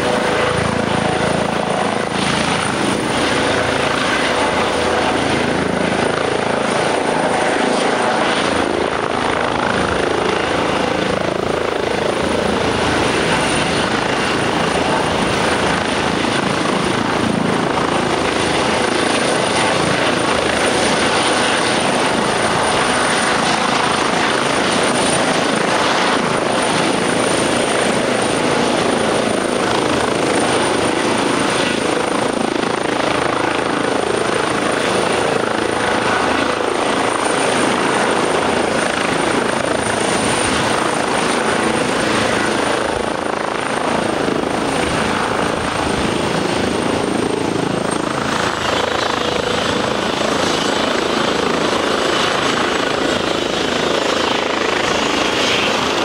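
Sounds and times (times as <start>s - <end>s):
helicopter rotor noise: 0.0s - 56.0s.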